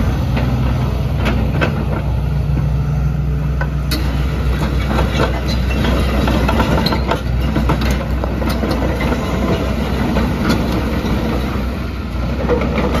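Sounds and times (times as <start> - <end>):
metallic clanks from crawler tracks: 0.0 - 2.8, 3.5 - 13.0
excavator diesel engine running: 0.0 - 13.0.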